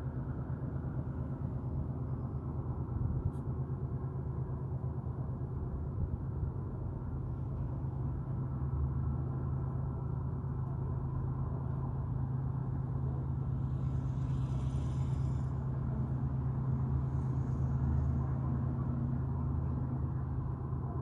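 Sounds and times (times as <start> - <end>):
low droning rumble from sky: 0.0 - 21.0.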